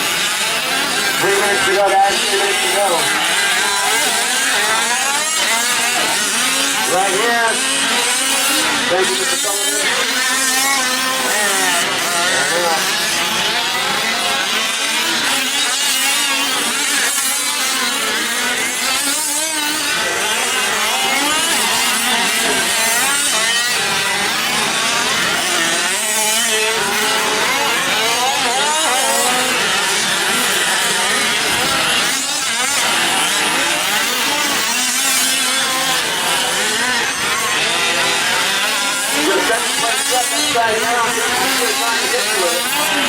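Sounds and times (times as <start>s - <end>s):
small two-stroke engines revving: 0.0s - 43.0s.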